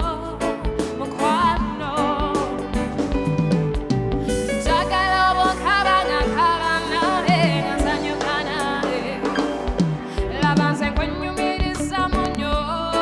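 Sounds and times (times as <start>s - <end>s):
drum kit: 0.0s - 13.0s
lead melody with bending notes: 0.0s - 13.0s
steady bass: 0.0s - 13.0s.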